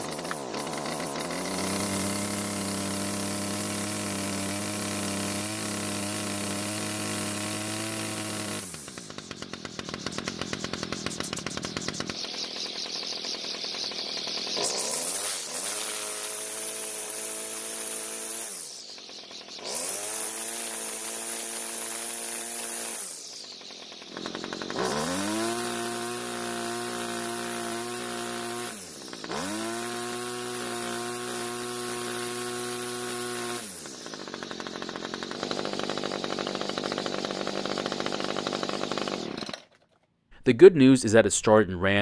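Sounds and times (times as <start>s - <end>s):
string trimmer engine revving: 0.0s - 40.0s.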